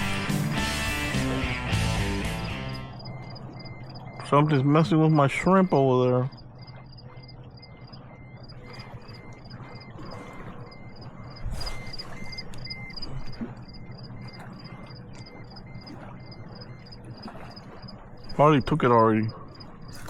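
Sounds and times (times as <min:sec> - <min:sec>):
insects chirping: 0:00.0 - 0:20.0
low steady hum: 0:00.0 - 0:20.0.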